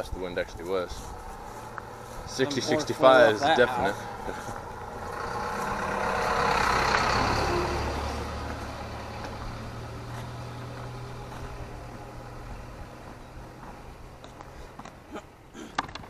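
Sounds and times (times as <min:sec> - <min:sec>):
vehicle passing by: 0:00.0 - 0:15.1
low engine hum: 0:00.0 - 0:15.6.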